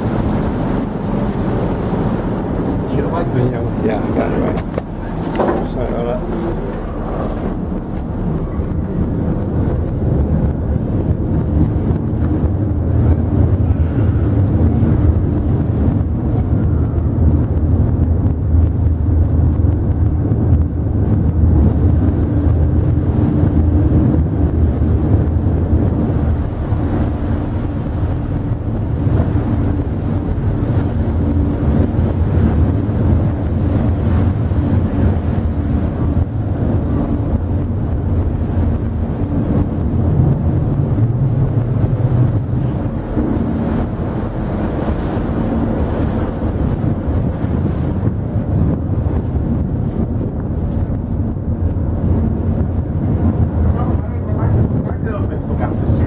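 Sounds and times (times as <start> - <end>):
ship diesel engines humming: 0.0 - 56.0
wind buffeting microphone: 0.0 - 56.0.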